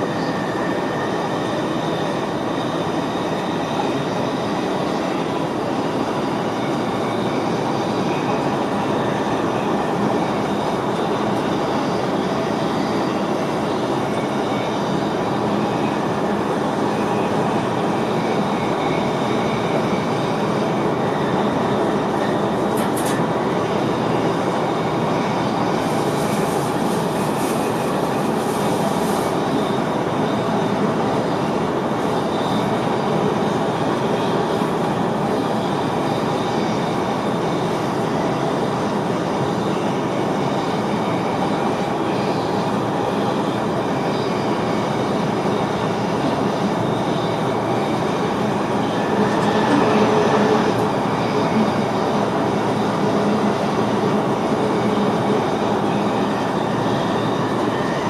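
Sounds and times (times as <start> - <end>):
electric train running: 0.0 - 58.0.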